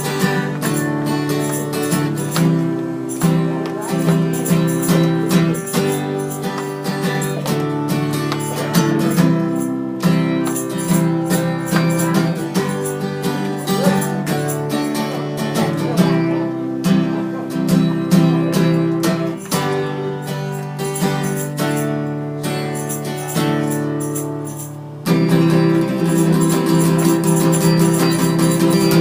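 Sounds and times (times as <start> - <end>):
tambourine: 0.0 - 16.4, 17.6 - 29.0
acoustic guitar strumming: 0.0 - 29.0
hand drum: 0.0 - 29.0.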